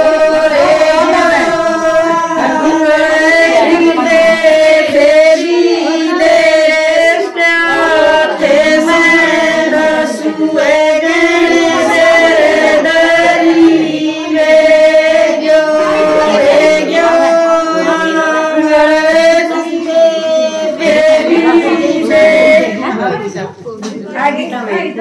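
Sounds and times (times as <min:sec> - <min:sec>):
women singing in unison: 0:00.0 - 0:23.2.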